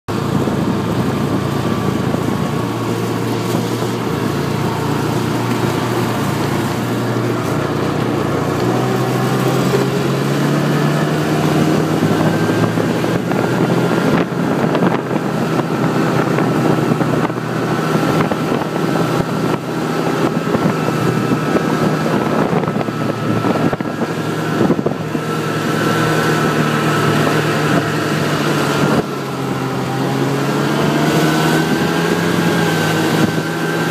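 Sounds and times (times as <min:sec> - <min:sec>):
snowmobile engine running: 0:00.1 - 0:33.9.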